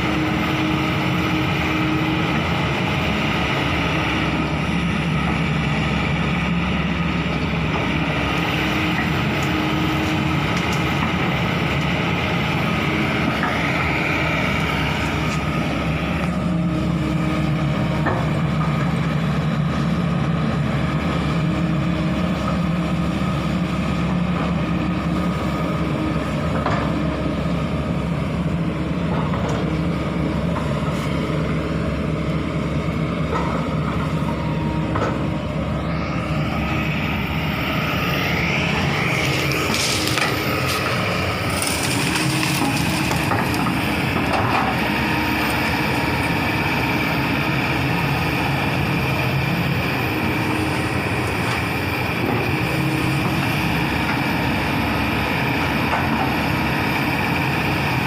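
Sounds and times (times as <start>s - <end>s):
excavator diesel engine running: 0.0s - 58.0s
hydraulic whine: 0.0s - 58.0s.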